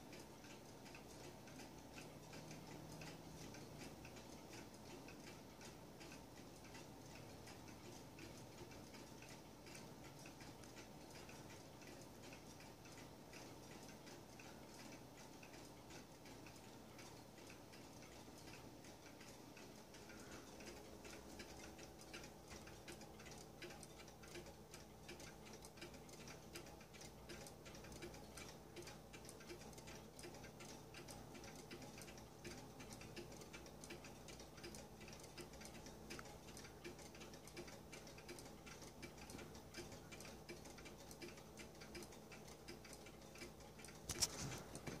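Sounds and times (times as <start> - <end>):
clock ticking: 0.0 - 45.0.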